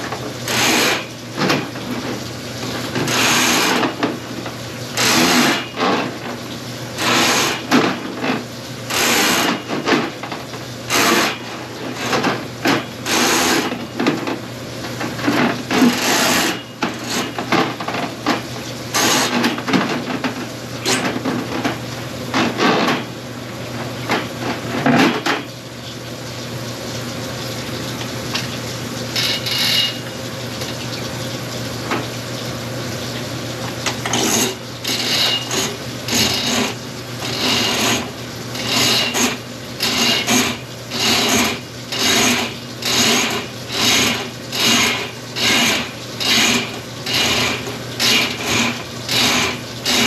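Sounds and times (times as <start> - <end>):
cable rasping in drain: 0.0 - 23.1, 28.0 - 30.8, 33.2 - 50.0
drain cleaning machine running: 0.0 - 50.0.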